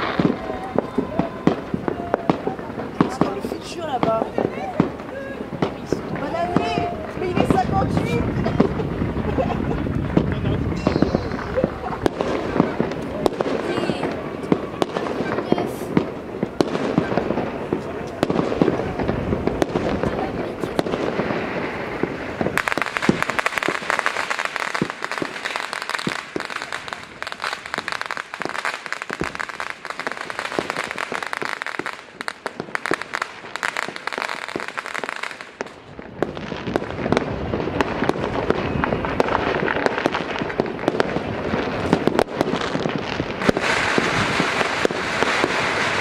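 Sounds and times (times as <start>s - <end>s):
fireworks crackling: 0.0s - 46.0s
fireworks popping and banging: 0.0s - 46.0s.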